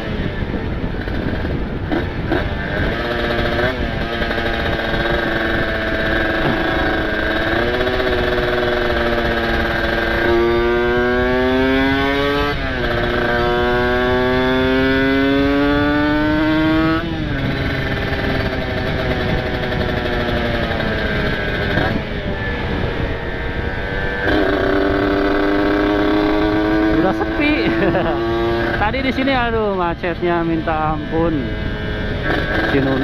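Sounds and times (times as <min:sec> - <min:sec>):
two-stroke motorcycle engine accelerating: 0:00.0 - 0:33.0.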